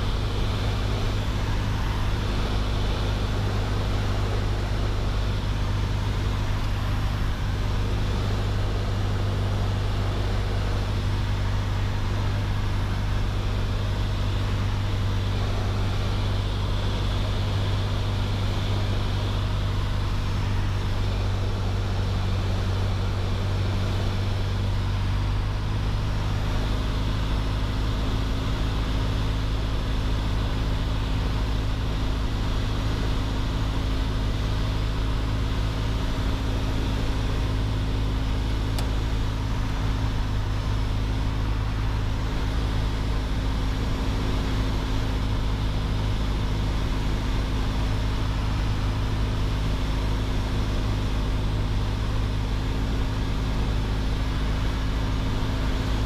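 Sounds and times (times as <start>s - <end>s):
propeller engine droning in cabin: 0.0s - 56.0s.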